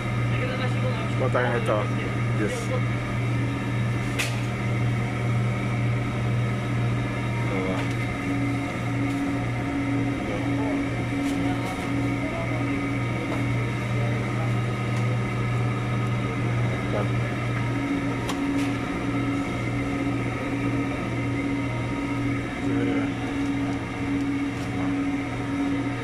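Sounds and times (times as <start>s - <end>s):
refrigeration machinery hum: 0.0s - 26.0s.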